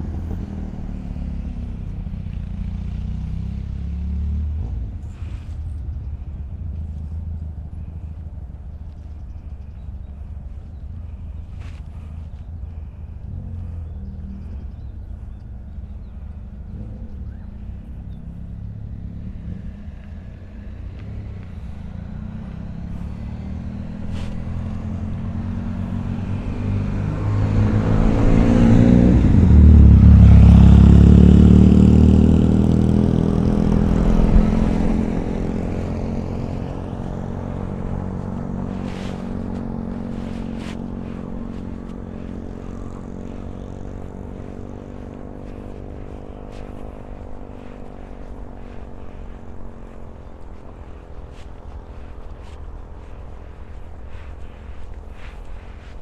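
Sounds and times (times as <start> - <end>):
vehicle engine passing: 0.0 - 56.0.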